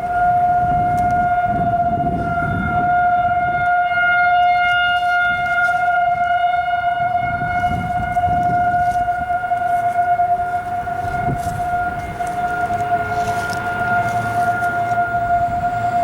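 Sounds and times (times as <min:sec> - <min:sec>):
tornado siren steady tone: 0:00.0 - 0:16.0.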